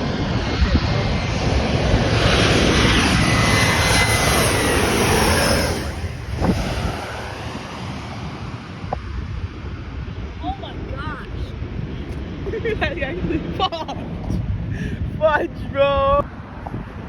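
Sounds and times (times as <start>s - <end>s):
jet airliner roaring overhead: 0.0s - 17.0s.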